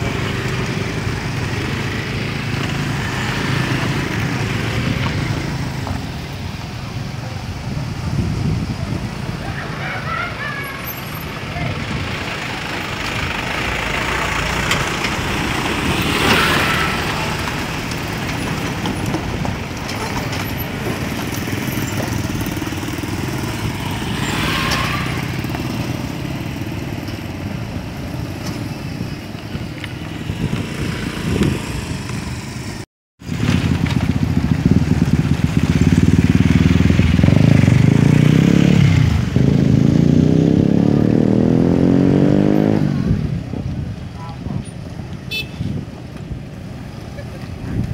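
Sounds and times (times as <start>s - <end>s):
motorcycle engine revving: 0.0s - 6.4s, 10.9s - 19.4s, 20.0s - 43.8s
road traffic: 0.0s - 47.9s.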